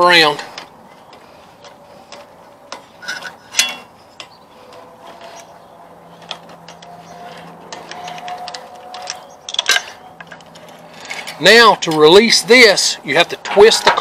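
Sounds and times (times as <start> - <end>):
tools and metal parts clicking: 0.6 - 12.0.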